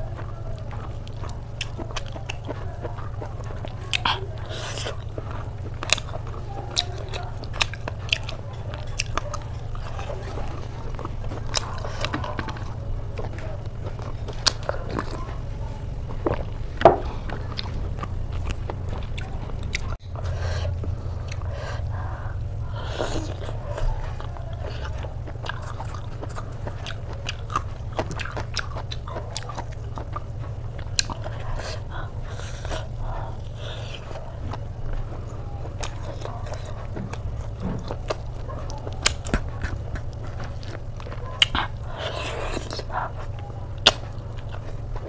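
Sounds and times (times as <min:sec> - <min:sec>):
person biting and chewing: 0:00.0 - 0:45.0
steady low hum: 0:00.0 - 0:45.0.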